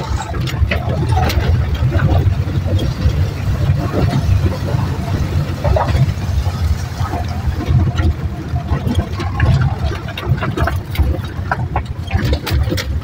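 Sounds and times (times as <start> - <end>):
body knocks and rattles: 0.0 - 13.0
car engine rumbling: 0.0 - 13.0.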